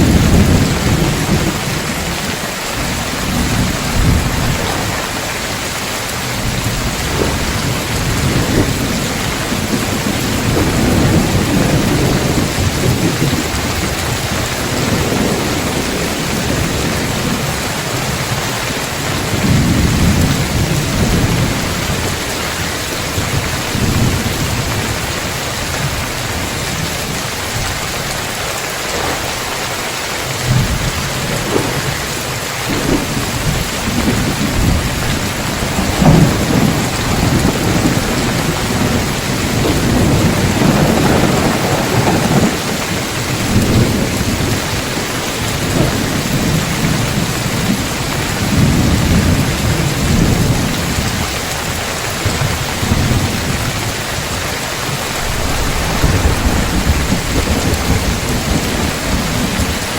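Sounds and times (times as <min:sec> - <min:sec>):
heavy rain on tiled roof: 0:00.0 - 0:59.9
thunder rumbling: 0:00.0 - 0:59.9.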